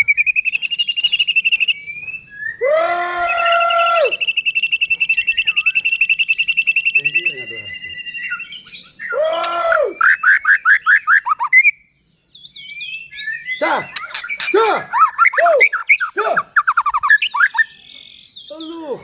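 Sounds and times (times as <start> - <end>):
bird singing loudly: 0.0 - 19.0.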